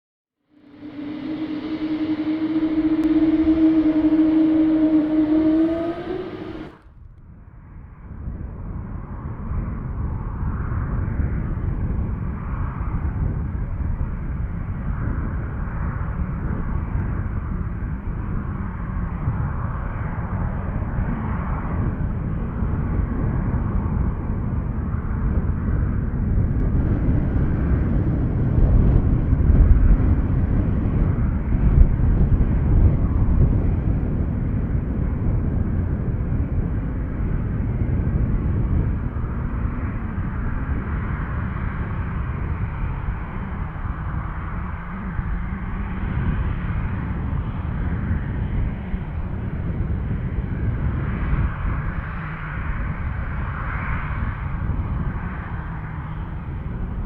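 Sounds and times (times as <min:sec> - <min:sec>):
airliner engine rumble: 0:00.5 - 0:06.9, 0:14.9 - 0:57.0.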